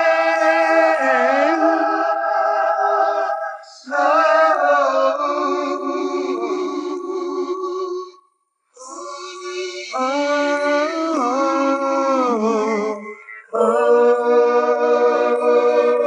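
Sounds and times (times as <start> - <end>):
voices singing layered harmony: 0.0 - 8.2, 8.8 - 16.0
wordless sung vocals: 0.0 - 16.0.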